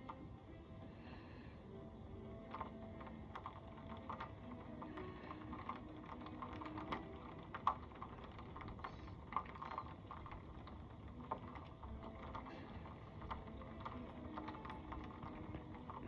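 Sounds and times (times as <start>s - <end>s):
raindrops tapping on window: 2.1s - 16.0s.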